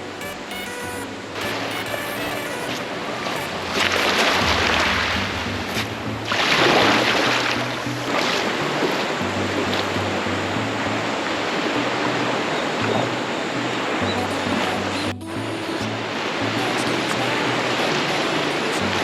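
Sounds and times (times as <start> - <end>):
background music with bass line: 0.0 - 17.8.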